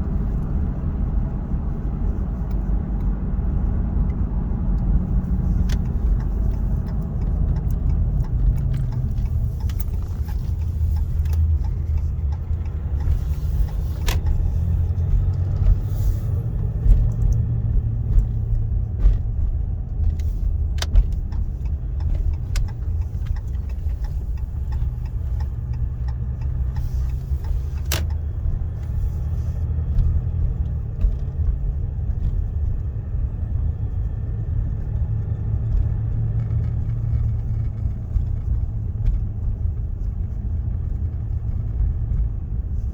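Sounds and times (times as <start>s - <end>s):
engine and road rumble: 0.0s - 42.9s.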